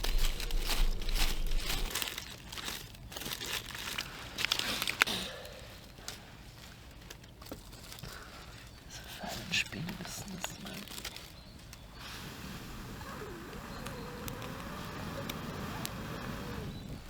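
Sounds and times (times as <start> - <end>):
dry tinder crackling in hand: 0.0 - 17.0.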